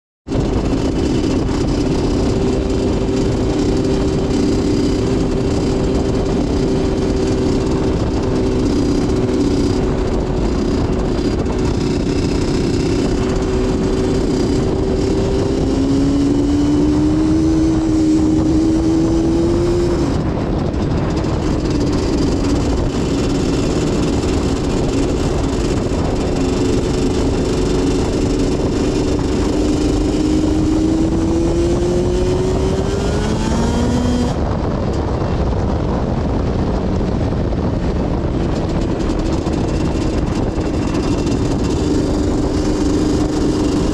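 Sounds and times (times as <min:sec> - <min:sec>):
two-stroke engine running: 0:00.3 - 0:43.9.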